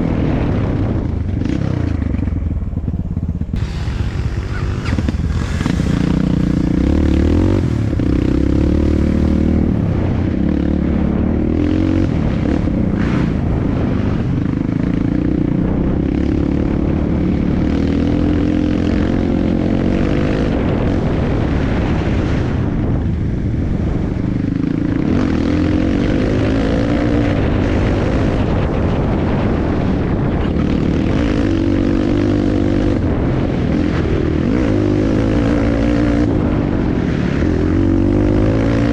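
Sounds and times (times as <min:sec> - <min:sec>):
dirt bike engine revving: 0:00.0 - 0:23.0, 0:23.6 - 0:38.9.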